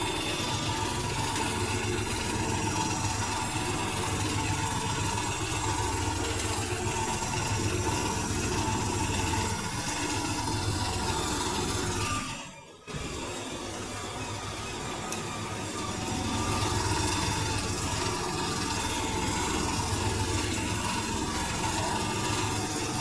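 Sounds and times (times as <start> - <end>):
washing machine motor hum: 0.0 - 23.0
washing machine whine: 0.0 - 23.0.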